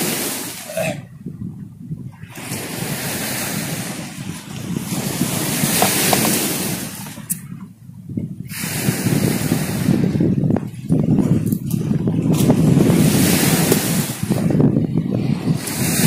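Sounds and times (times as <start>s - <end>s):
waves: 0.0s - 16.0s
wind: 0.0s - 16.0s.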